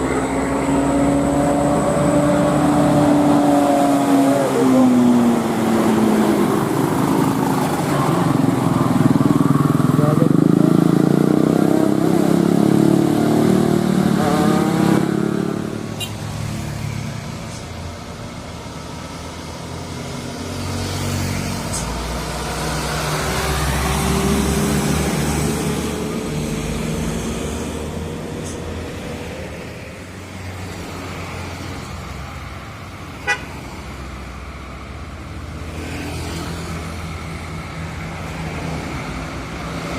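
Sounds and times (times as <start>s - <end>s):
truck diesel engines labouring: 0.0s - 39.9s.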